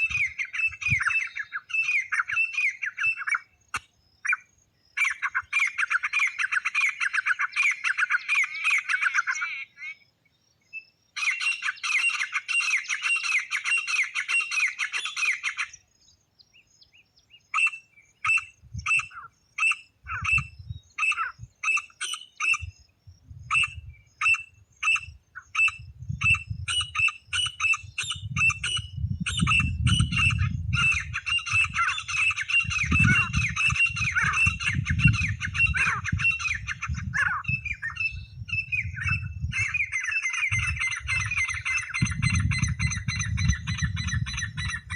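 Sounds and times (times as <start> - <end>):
partridge calls: 0.0 - 10.1, 11.2 - 15.8, 16.9 - 44.9.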